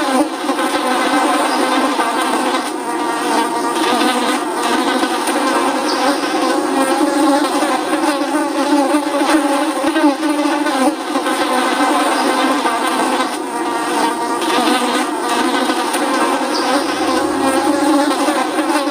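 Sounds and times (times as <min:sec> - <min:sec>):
flies buzzing: 0:00.1 - 0:18.9.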